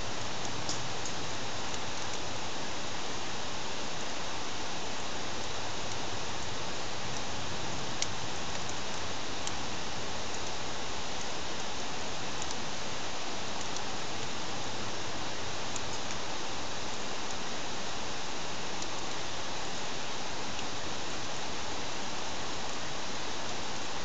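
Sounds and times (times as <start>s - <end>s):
campfire hissing: 0.0s - 24.0s.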